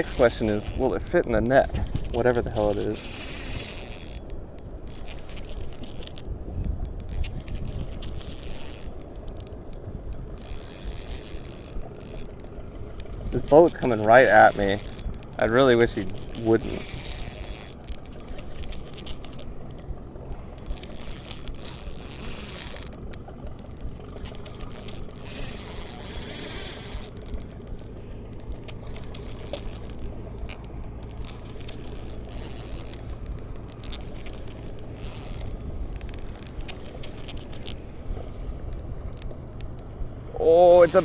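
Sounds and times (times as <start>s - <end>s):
fishing reel whirring and clicking: 0.0s - 41.0s
motorboat engine droning: 0.0s - 41.0s.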